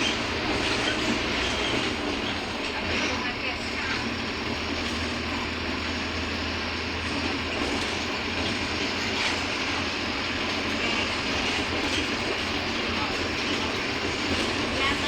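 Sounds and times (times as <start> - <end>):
bus engine running: 0.0 - 15.0
road noise: 0.0 - 15.0.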